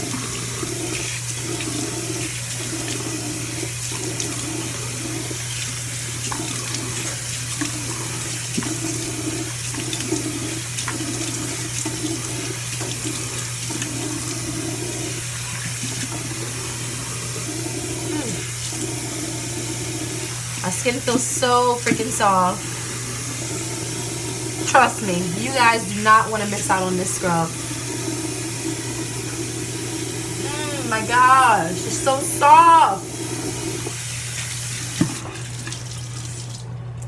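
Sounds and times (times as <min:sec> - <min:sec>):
tap water running into sink: 0:00.0 - 0:37.0.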